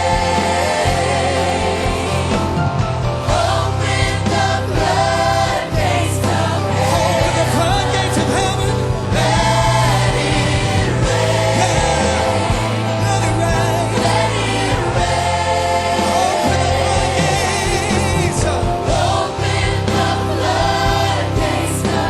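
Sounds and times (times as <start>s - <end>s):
band with bass line: 0.0s - 22.0s
choir and congregation singing: 0.0s - 22.0s.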